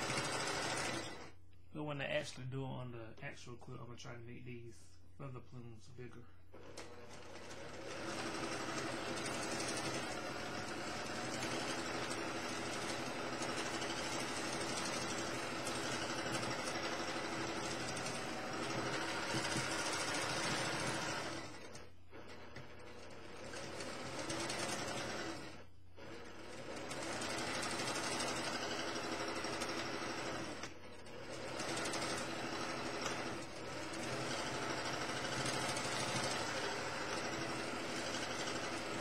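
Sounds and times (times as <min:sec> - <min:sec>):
sewing machine stitching: 0:00.0 - 0:01.4, 0:06.5 - 0:39.0.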